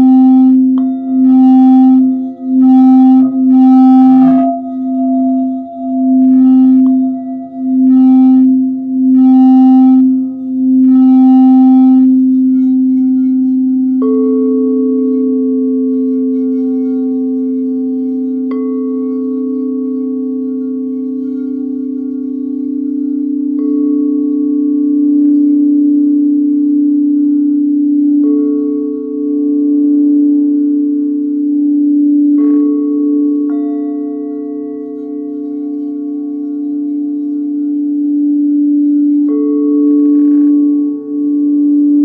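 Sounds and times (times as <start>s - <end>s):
high singing bowl ringing: 0.0s - 42.0s
low singing bowl humming: 0.0s - 42.0s.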